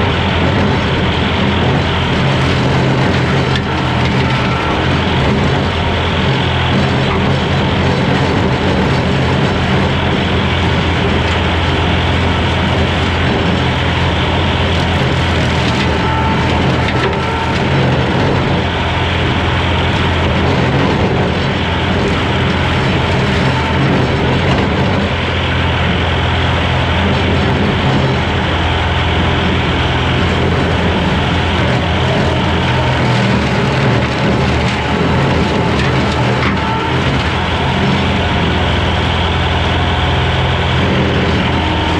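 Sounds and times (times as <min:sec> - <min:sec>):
rotary cutter mowing brush: 0:00.0 - 0:41.9
skid steer engine running: 0:00.0 - 0:41.9.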